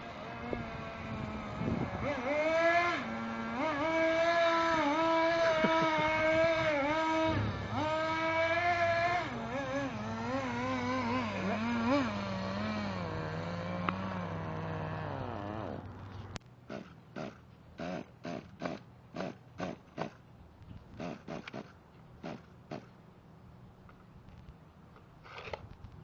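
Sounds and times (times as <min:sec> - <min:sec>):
small rc car engine revving: 0:00.0 - 0:20.2, 0:21.0 - 0:22.9.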